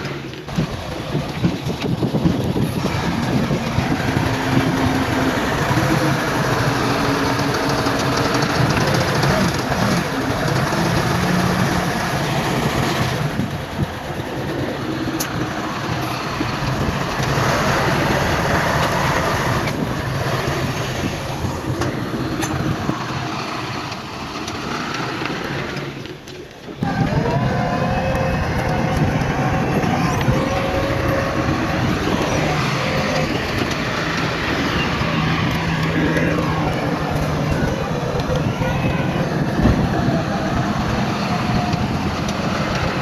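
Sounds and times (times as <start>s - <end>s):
diesel machinery rumbling: 0.0s - 43.0s.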